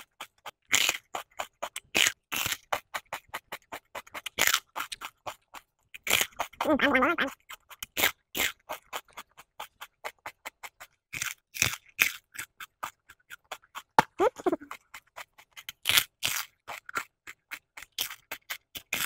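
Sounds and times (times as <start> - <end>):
crisp wet crunches of chewing: 0.0 - 19.0.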